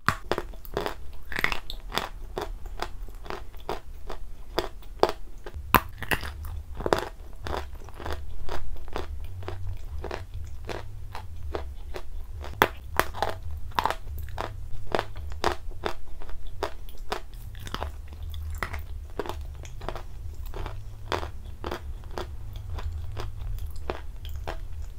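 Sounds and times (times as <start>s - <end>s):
wet crunching and chewing: 0.0s - 24.9s
low rumble: 0.6s - 24.9s.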